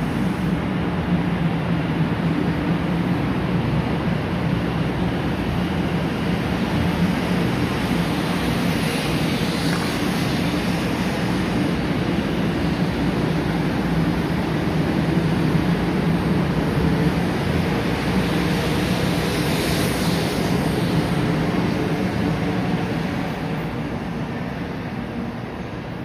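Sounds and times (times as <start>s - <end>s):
train wheels rushing: 0.0s - 26.0s.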